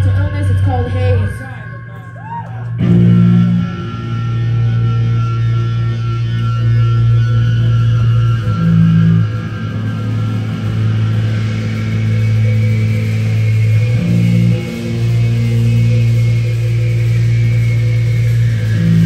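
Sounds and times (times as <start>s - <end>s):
heavy rock band playing live: 2.8s - 19.0s.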